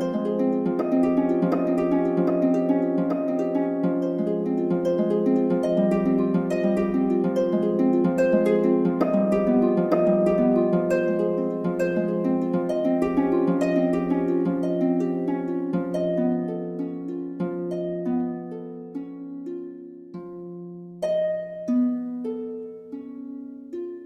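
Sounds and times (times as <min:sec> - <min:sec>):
plucked harp notes: 0:00.0 - 0:24.0.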